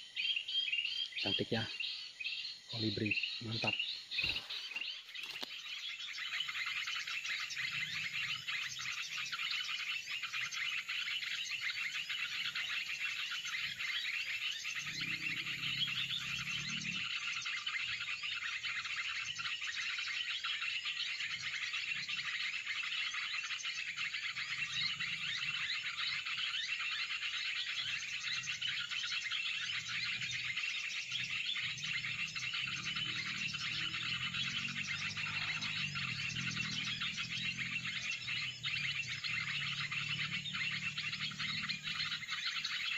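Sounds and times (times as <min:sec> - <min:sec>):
chorus of high-pitched chirping: 0:00.0 - 0:42.9.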